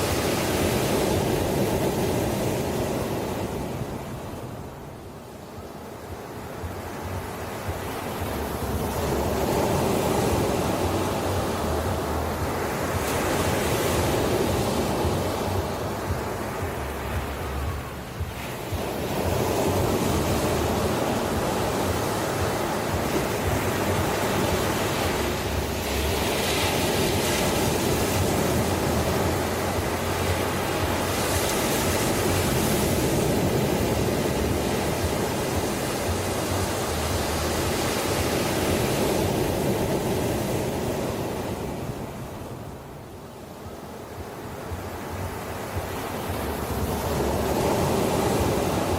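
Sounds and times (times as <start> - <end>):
ocean waves breaking on shore: 0.0 - 48.9.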